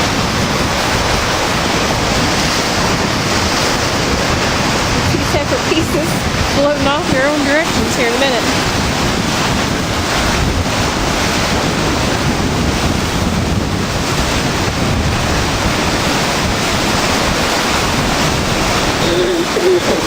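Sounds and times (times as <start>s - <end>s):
floodwater rushing: 0.0s - 20.0s
wind buffeting microphone: 0.0s - 20.0s.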